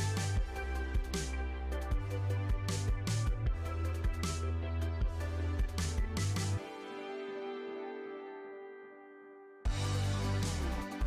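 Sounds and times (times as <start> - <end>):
electronic music with deep bass: 0.0 - 7.8, 9.7 - 11.0.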